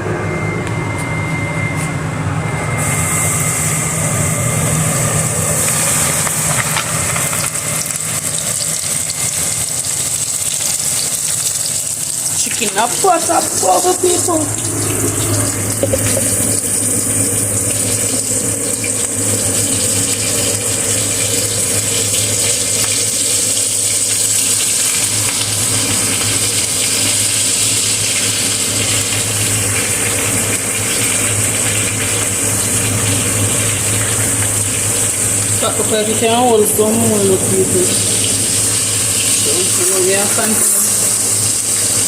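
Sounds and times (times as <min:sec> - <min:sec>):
low hum: 0:00.0 - 0:27.7, 0:28.4 - 0:42.0
oil sizzling in a pan: 0:02.8 - 0:42.0.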